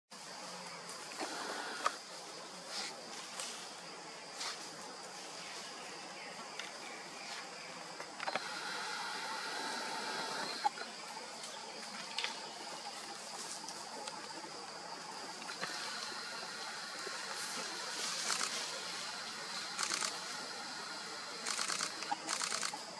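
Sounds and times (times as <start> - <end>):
outdoor hiss: 0.2 - 22.9.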